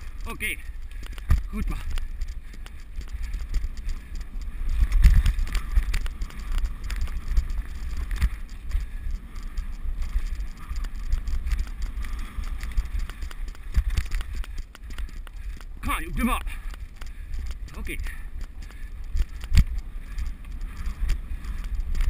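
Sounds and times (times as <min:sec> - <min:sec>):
camera movement rumble: 0:00.0 - 0:22.0.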